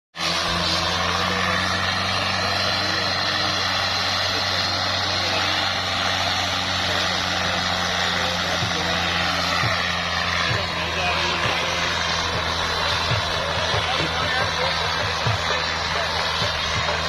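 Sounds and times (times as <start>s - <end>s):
tractor diesel engine running: 0.2s - 17.0s.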